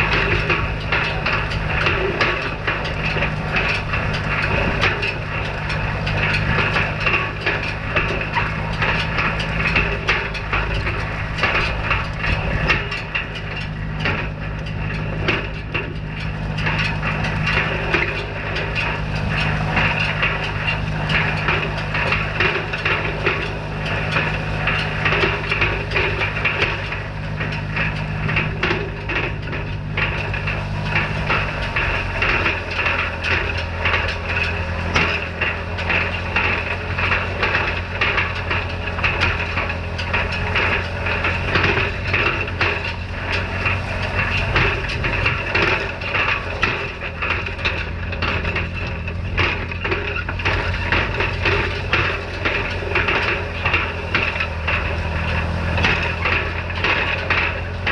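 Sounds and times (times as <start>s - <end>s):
hay rake clattering: 0.0s - 57.9s
tractor engine running: 0.0s - 57.9s.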